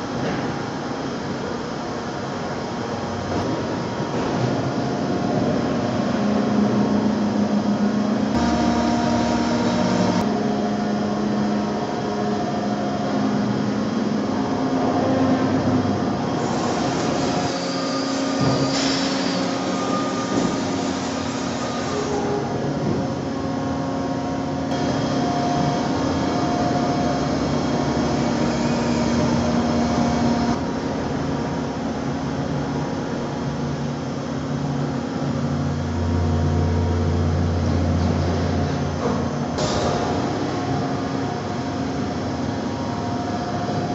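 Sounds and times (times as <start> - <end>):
deeper machine hum: 0.0 - 43.9
milling machine hum and whine: 0.0 - 43.9.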